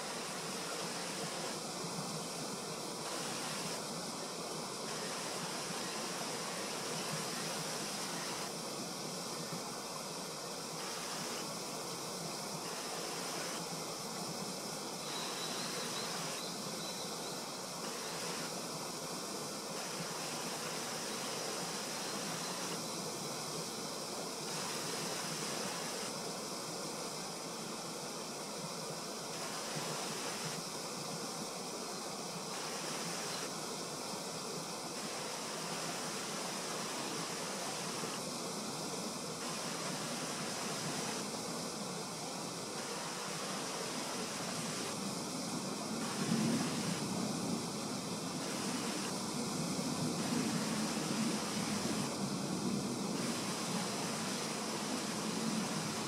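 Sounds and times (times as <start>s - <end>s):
faint high insect-like whine: 0.0s - 56.0s
rushing outdoor background noise: 0.0s - 56.0s.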